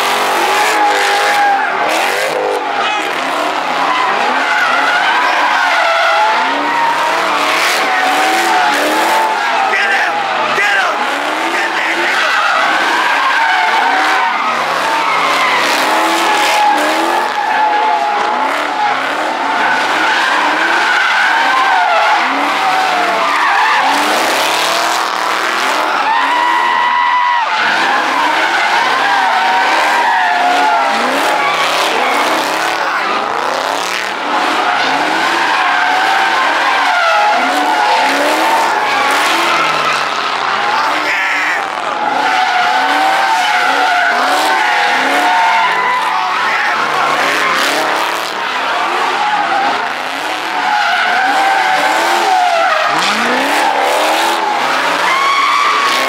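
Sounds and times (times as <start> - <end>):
car engine revving: 0.0 - 56.0
tyres squealing: 0.0 - 56.0.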